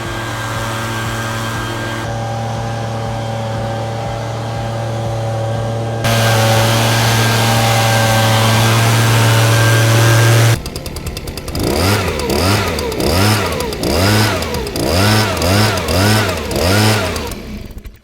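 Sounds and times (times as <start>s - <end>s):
leaf blower engine revving: 0.0s - 18.0s.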